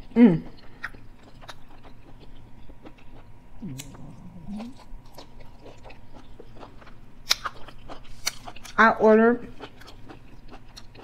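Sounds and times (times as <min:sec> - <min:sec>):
person chewing food: 0:00.0 - 0:08.8, 0:09.5 - 0:11.0.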